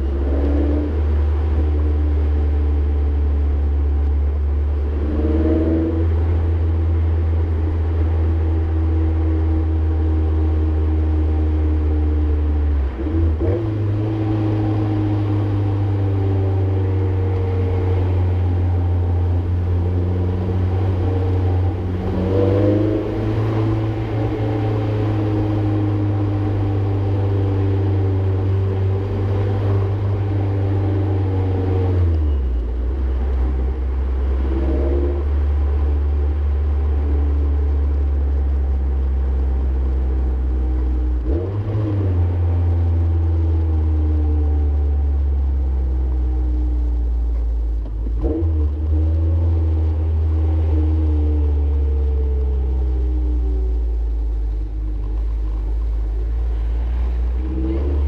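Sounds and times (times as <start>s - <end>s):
car engine drone inside cabin: 0.0s - 58.0s.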